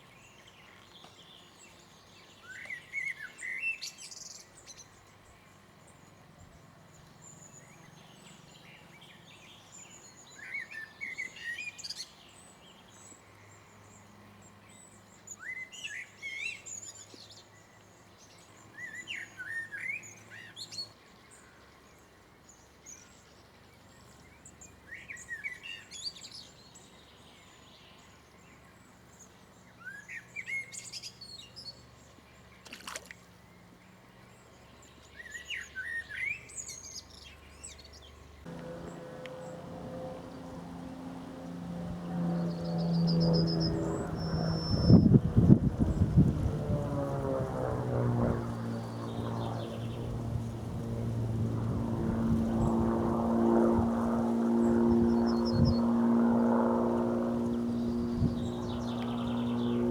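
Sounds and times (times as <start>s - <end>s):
songbird singing: 0.0s - 46.6s, 48.5s - 56.0s, 57.0s - 59.9s.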